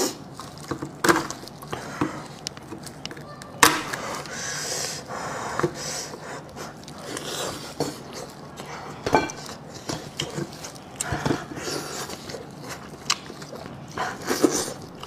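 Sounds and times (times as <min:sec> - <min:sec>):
biting and chewing: 0:00.0 - 0:15.0.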